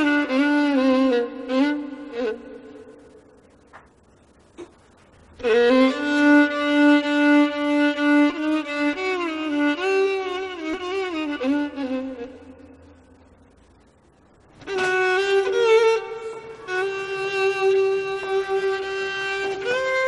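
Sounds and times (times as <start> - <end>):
violin bowed slowly: 0.0 - 3.1, 5.4 - 13.0, 14.5 - 20.0.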